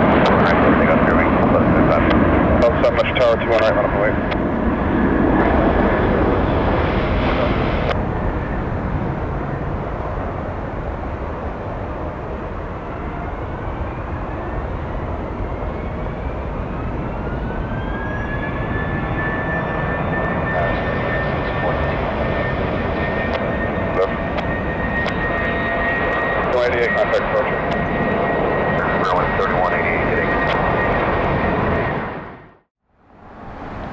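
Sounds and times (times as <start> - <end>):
jet engines spooling up: 0.0 - 32.5.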